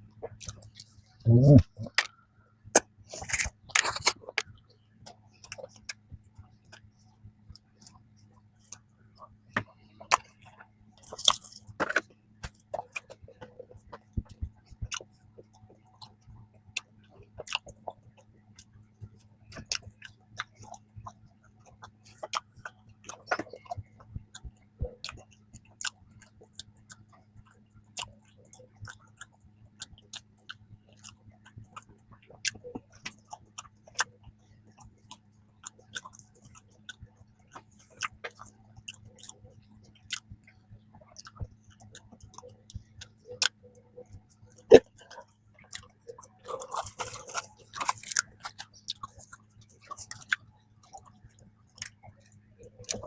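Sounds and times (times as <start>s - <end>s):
chewing with wet mouth clicks: 0.1s - 2.2s, 2.8s - 53.0s.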